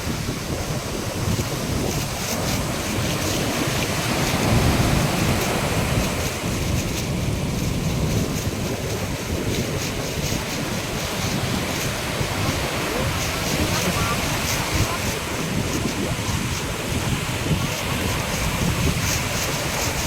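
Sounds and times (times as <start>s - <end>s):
storm waves breaking: 0.0s - 20.0s
wind buffeting microphone: 0.0s - 20.0s.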